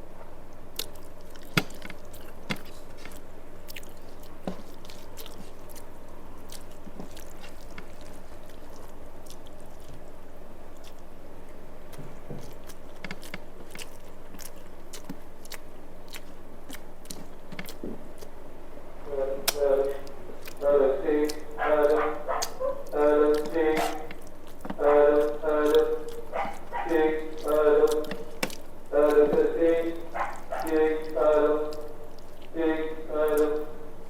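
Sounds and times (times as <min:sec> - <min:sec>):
person chewing food: 0:00.5 - 0:32.6.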